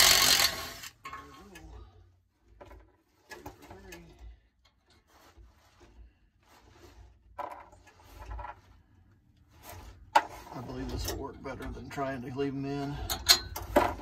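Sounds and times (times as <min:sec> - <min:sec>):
faint rubbing and scraping: 0:01.0 - 0:14.0.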